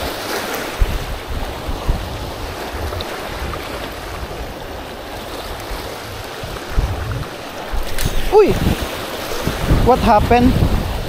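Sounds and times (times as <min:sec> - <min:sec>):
surf washing on beach: 0:00.0 - 0:11.0
wind buffeting microphone: 0:00.0 - 0:11.0.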